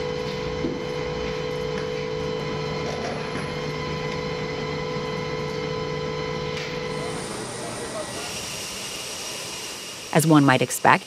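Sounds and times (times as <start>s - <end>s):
aircraft machinery drone with whine: 0.0s - 11.0s.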